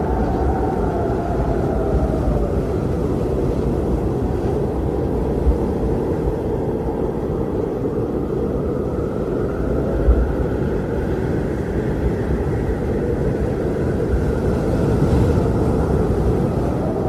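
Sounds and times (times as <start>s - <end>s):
faint wind whistle: 0.0s - 17.0s
low wind buffet: 0.0s - 17.0s
strong wind rushing: 0.0s - 17.0s.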